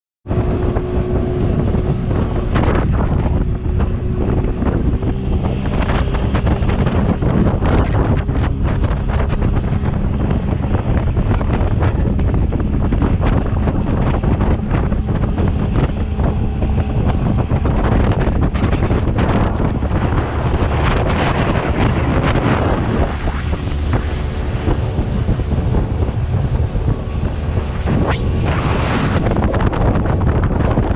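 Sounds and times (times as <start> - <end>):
motorboat engine running: 0.2 - 30.9
wind buffeting microphone: 0.2 - 30.9.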